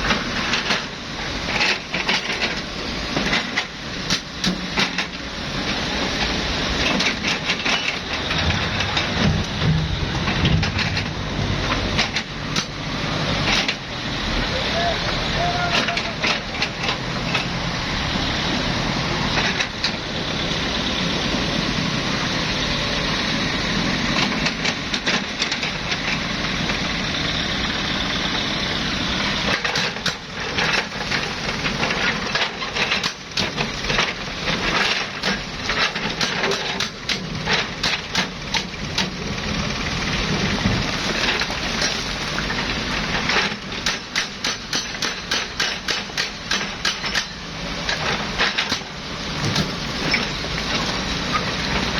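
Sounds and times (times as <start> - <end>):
diesel engine under load: 0.0 - 51.9.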